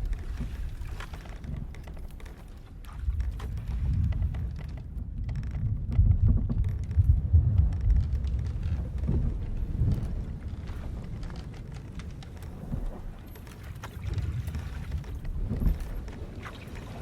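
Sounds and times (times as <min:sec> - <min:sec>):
faint clicks and knocks: 0:00.0 - 0:17.0
rumble of wind and sea: 0:00.0 - 0:17.0.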